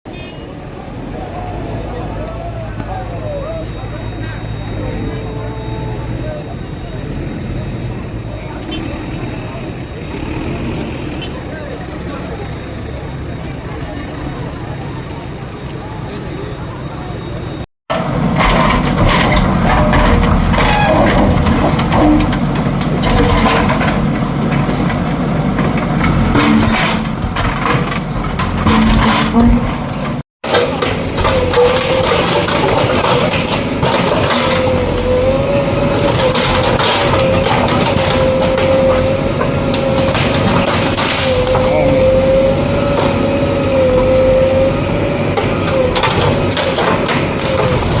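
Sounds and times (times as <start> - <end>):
heavy diesel engine running: 0.1 - 48.0.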